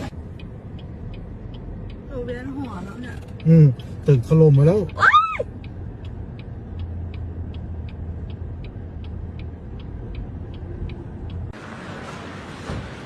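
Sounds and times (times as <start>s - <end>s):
low steady rumble: 0.0s - 11.6s
light regular ticking: 0.1s - 11.6s.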